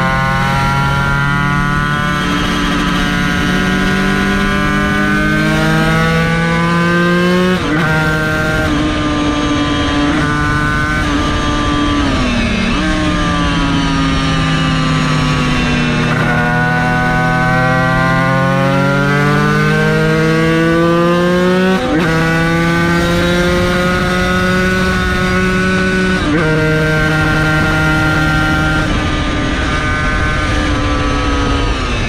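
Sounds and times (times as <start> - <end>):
two-stroke racing engine revving: 0.0 - 32.0.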